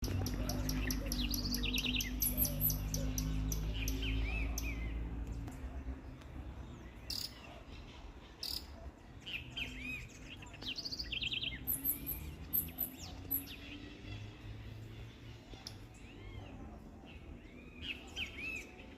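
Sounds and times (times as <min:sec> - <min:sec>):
songbirds chirping: 0:00.0 - 0:18.9.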